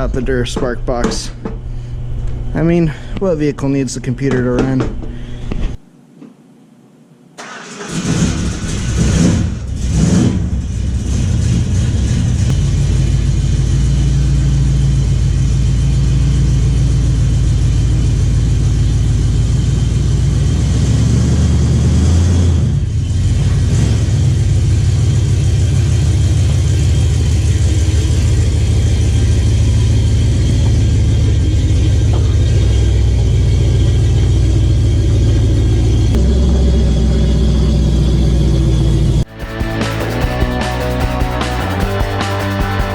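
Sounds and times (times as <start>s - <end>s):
truck engine starting and running: 7.4s - 42.9s.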